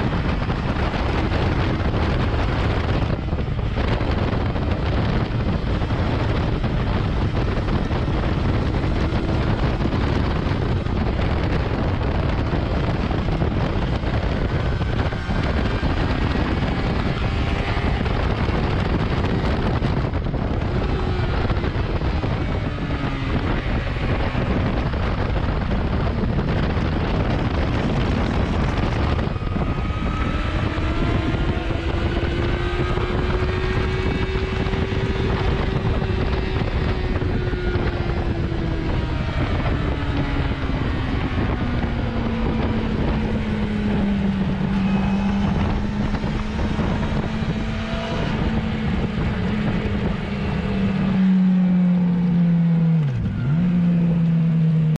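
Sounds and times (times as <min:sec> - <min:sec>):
motorcycle engine accelerating: 0:00.0 - 0:54.9
wind rushing on microphone: 0:00.0 - 0:54.9.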